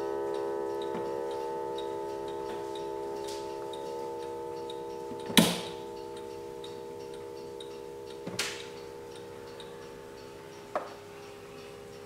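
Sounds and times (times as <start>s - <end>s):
clock chime ringing: 0.0s - 12.0s
clock ticking: 0.0s - 12.0s.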